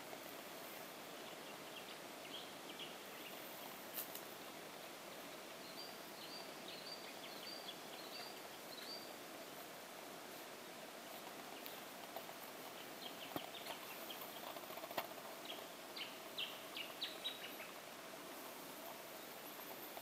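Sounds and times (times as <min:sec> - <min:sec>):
faint steady hiss: 0:00.0 - 0:20.0
birds chirping: 0:01.0 - 0:03.9, 0:04.6 - 0:09.3, 0:10.7 - 0:20.0.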